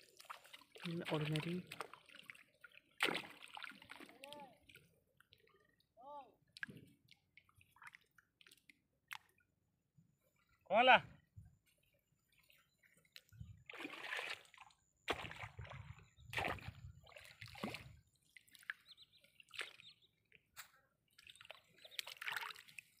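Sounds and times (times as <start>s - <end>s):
shallow water splashing and sloshing: 0.0s - 23.0s.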